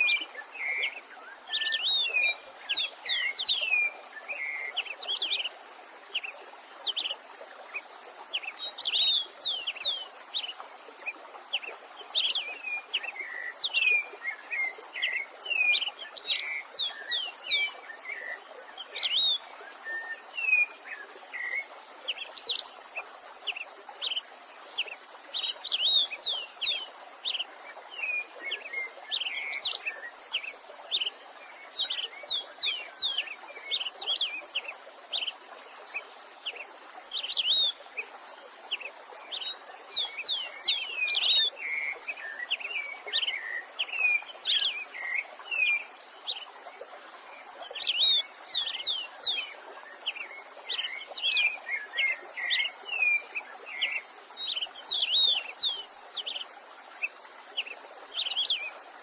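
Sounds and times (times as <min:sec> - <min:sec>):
songbird singing whistled sweeps: 0:00.0 - 0:22.8, 0:23.4 - 0:59.0
stream rushing: 0:00.0 - 0:59.0.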